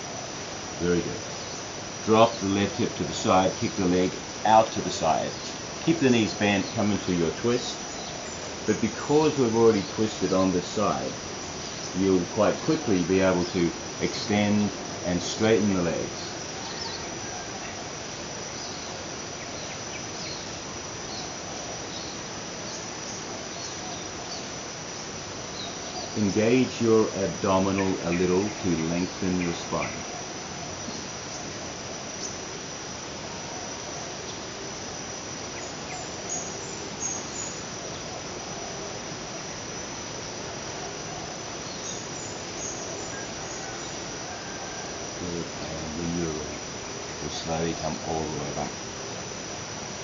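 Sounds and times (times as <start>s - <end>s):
background hiss: 0.0s - 50.0s
insect chirring: 0.0s - 50.0s.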